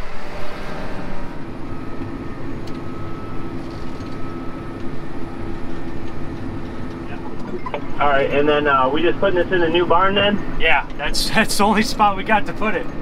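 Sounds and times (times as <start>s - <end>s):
thin steady whine: 0.0s - 13.0s
tractor engine rumbling: 0.0s - 13.0s.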